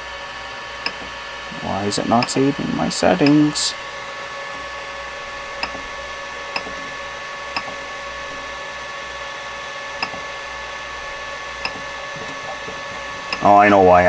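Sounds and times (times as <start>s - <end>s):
printer fans whirring: 0.0s - 14.0s.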